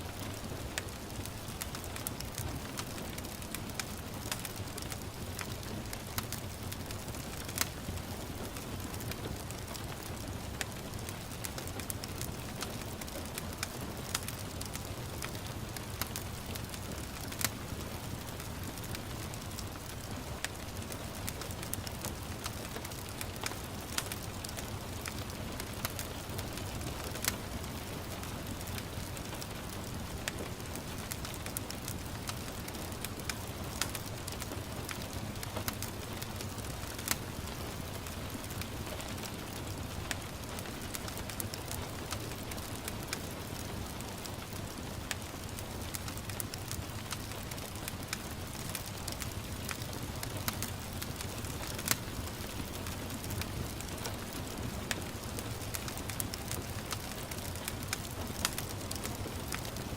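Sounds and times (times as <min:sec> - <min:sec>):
gentle rain hissing: 0:00.0 - 0:59.9
wood fire crackling and popping: 0:00.0 - 0:59.9.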